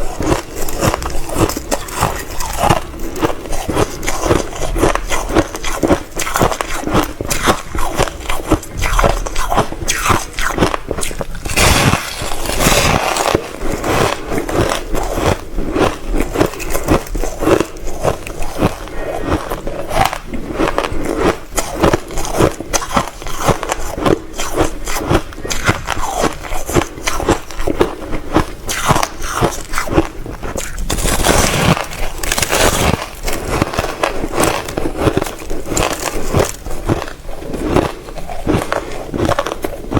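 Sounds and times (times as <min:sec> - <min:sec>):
crushed ice crunching: 0:00.0 - 0:39.9.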